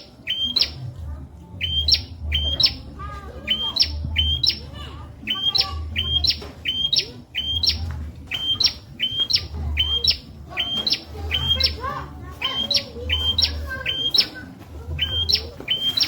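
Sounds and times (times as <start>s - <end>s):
soft bird twittering: 0.0s - 1.0s, 1.6s - 16.0s.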